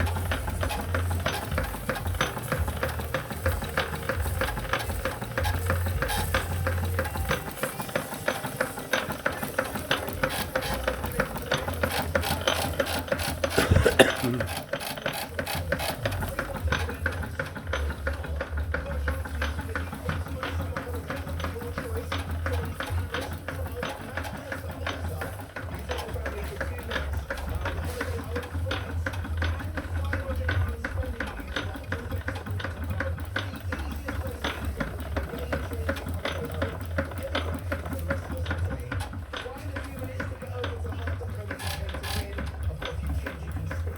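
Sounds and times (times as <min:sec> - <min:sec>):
continuous low hum: 0:00.0 - 0:43.9
steam engine clattering clicks: 0:00.0 - 0:43.9.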